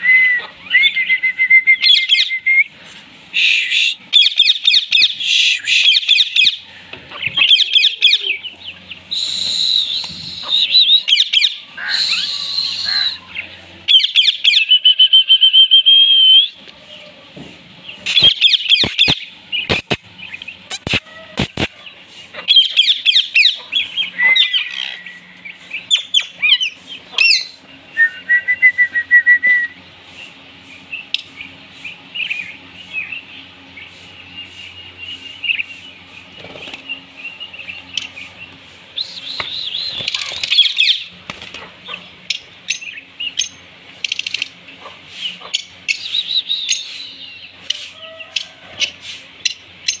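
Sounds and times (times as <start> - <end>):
birds chirping and squawking: 0.0 - 1.1, 1.8 - 28.7, 29.8 - 50.0
rapid bird trill: 3.4 - 16.6, 17.9 - 29.0, 30.2 - 41.2, 41.8 - 50.0.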